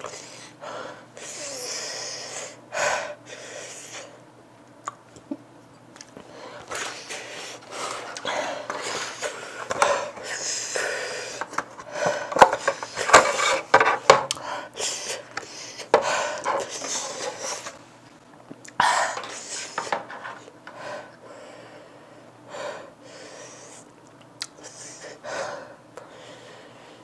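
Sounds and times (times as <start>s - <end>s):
person panting and breathing hard: 0.0s - 4.2s, 6.2s - 17.8s, 18.8s - 23.9s, 24.6s - 27.0s.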